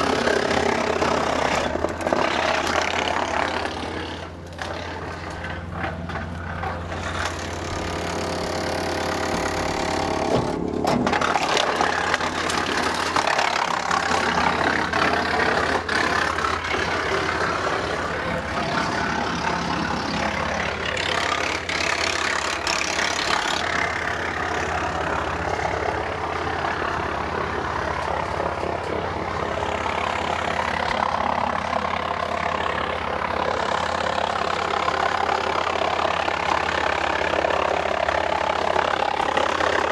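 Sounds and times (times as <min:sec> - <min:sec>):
wood chipper engine hum: 0:00.0 - 0:39.9.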